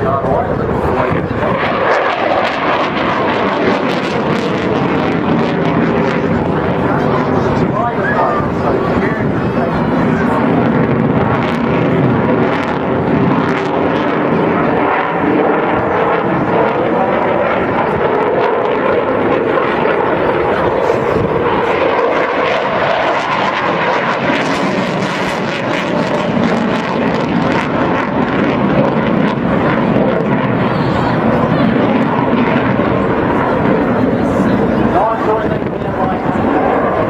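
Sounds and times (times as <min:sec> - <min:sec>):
aircraft engine flying past: 0:00.0 - 0:37.0.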